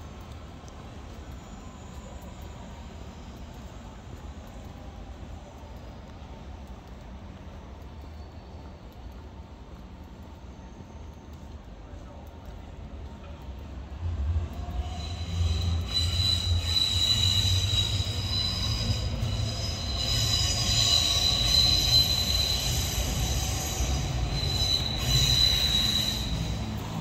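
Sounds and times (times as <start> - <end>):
rail wheels squealing: 0.0 - 5.7, 8.0 - 9.5, 10.2 - 12.0, 13.9 - 27.0.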